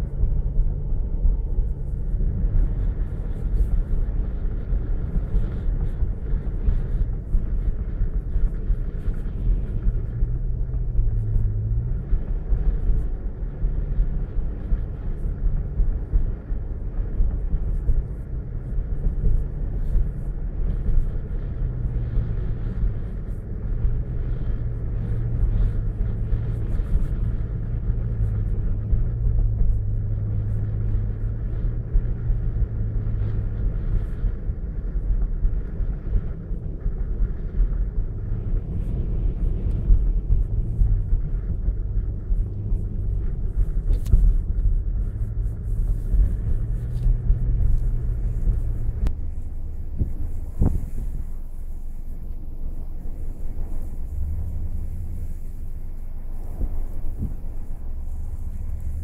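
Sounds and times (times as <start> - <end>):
car road and engine rumble: 0.0 - 59.0
steady hum: 0.0 - 59.0.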